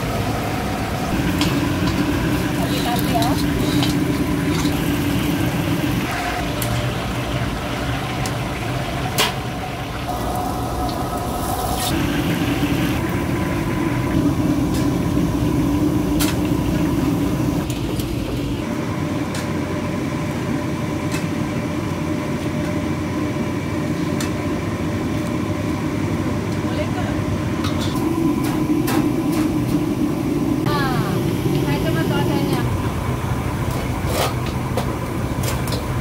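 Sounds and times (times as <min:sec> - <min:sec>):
low mechanical rumble: 0:00.0 - 0:36.0.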